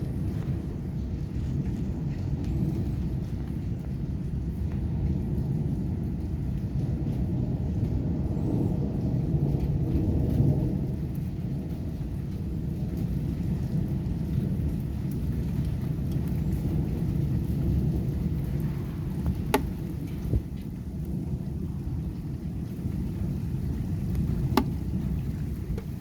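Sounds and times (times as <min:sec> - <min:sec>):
heavy rain: 0:00.0 - 0:26.0
low thunder rumble: 0:00.0 - 0:26.0.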